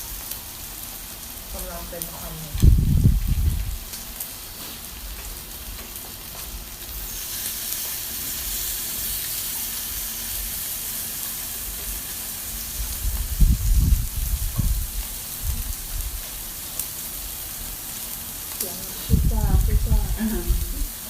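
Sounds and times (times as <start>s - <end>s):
pork sizzling on a grill pan: 0.0s - 21.0s.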